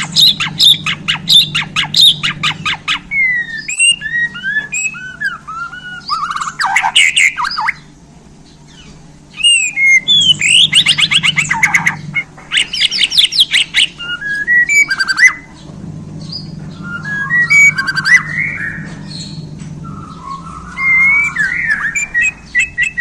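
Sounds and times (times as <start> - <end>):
faint low hum: 0.0 - 23.0
songbird singing varied phrases: 0.0 - 23.0.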